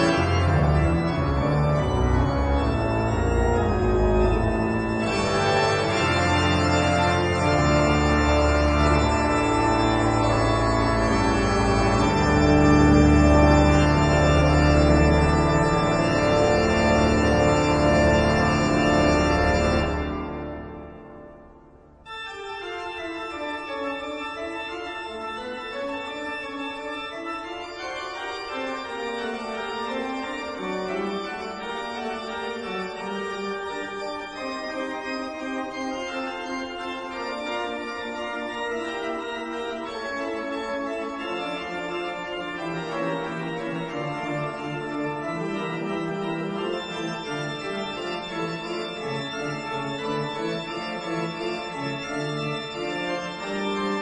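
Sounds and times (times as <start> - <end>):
slow organ music: 0.0 - 54.0.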